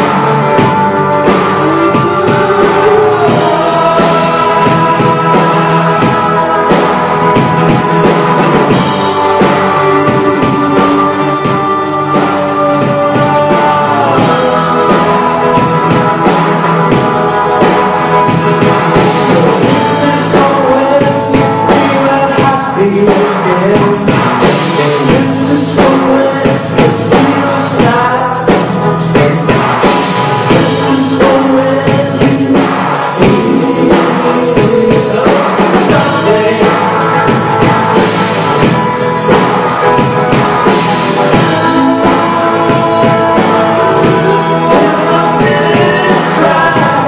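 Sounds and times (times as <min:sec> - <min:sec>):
person singing: 0:00.0 - 0:47.0
rock band playing live: 0:00.0 - 0:47.0.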